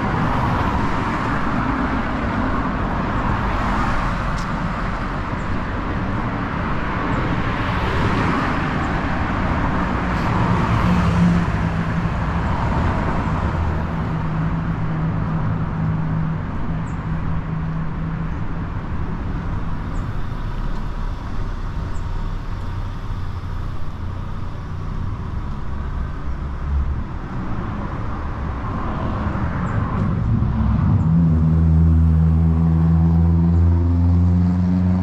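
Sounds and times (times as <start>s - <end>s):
engine humming close by: 0.0s - 35.0s
heavy engine close by: 0.0s - 35.0s
vehicles passing: 0.0s - 35.0s.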